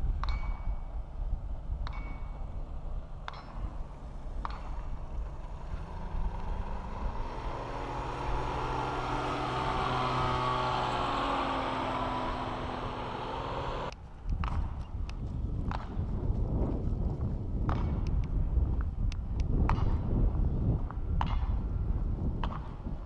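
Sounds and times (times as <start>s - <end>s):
wind rumbling on microphone: 0.0s - 23.0s
paraglider engine and propeller: 2.2s - 23.0s.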